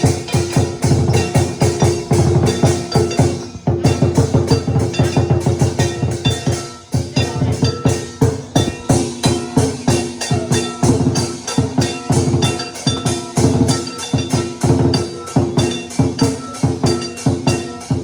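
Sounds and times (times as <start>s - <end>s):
drum beaten fast: 0.0s - 18.0s
gong: 0.0s - 18.0s
ringing metal cymbals: 0.0s - 18.0s.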